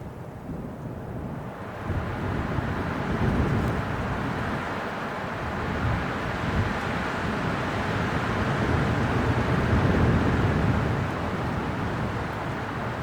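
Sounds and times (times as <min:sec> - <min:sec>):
strong wind blowing in gusts: 0:00.0 - 0:13.0.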